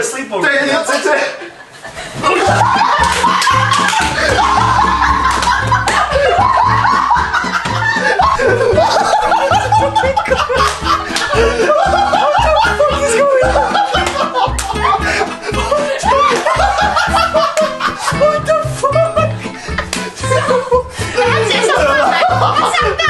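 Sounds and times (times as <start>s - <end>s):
people laughing: 0.8s - 23.0s
music with steady beat: 2.5s - 23.0s.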